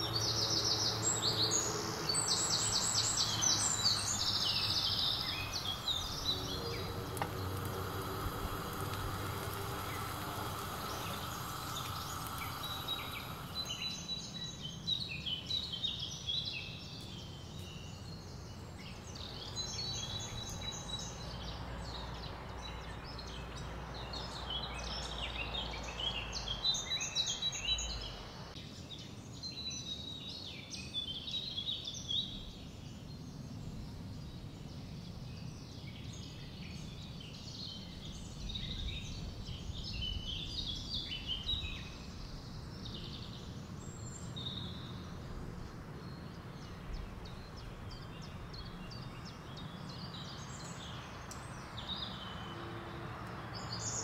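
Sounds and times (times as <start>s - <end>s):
birds chirping: 0.0s - 28.6s, 31.0s - 54.0s.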